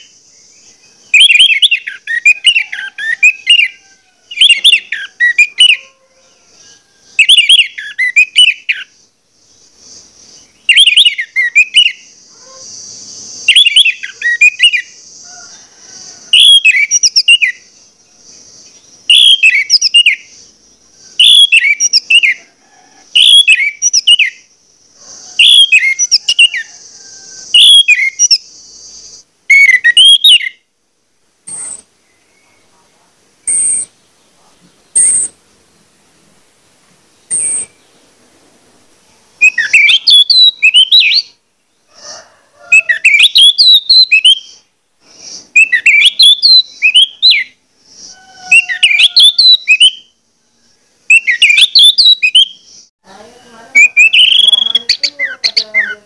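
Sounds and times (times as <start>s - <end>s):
steady high hiss: 0.0s - 56.0s.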